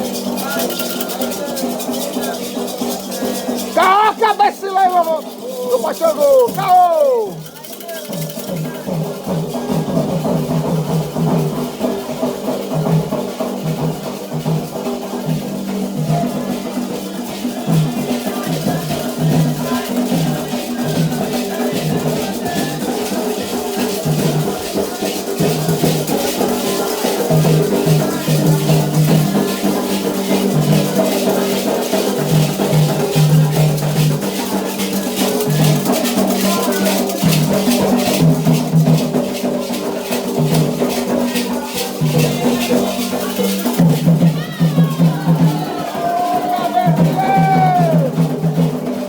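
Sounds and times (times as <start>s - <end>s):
hand drums playing: 0.0s - 49.0s
shaker rattling: 0.0s - 49.0s.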